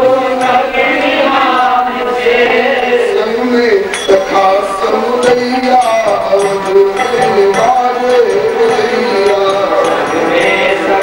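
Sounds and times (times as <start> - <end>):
man singing devotional song: 0.0 - 11.0
musical accompaniment: 0.0 - 11.0
sharp percussion strokes: 0.0 - 11.0.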